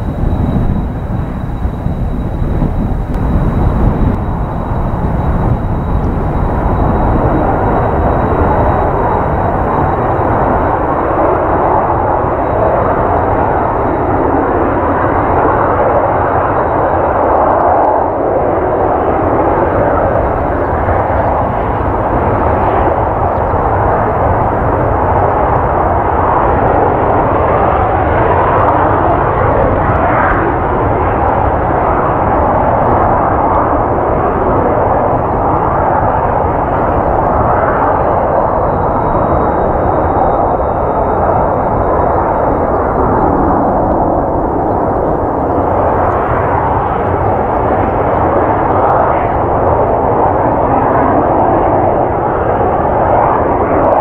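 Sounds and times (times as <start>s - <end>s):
loud jet engine roar: 0.0s - 54.0s
wind buffeting microphone: 0.0s - 54.0s.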